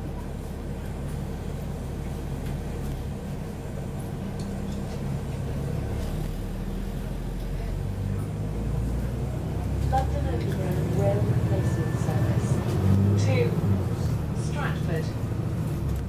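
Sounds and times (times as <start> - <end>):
bus diesel engine drone: 0.0 - 16.0.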